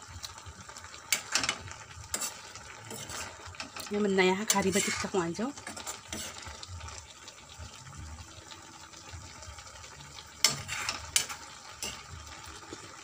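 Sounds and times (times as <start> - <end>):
frying sizzle: 0.0 - 13.0
ladle stirring vegetables in pan: 0.1 - 7.8, 9.2 - 13.0.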